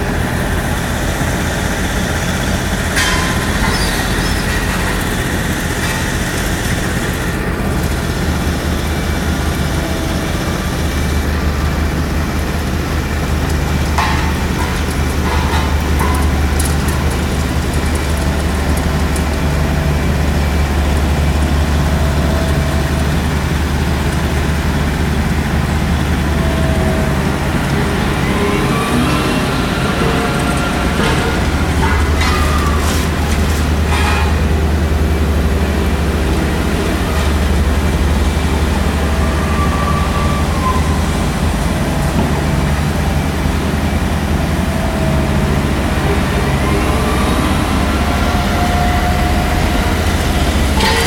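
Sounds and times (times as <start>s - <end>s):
heavy machinery engine drone: 0.0s - 51.0s.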